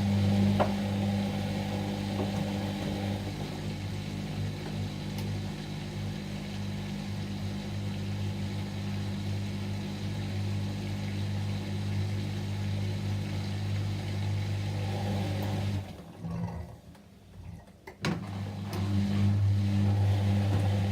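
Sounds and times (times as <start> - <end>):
washing machine humming: 0.0 - 20.9.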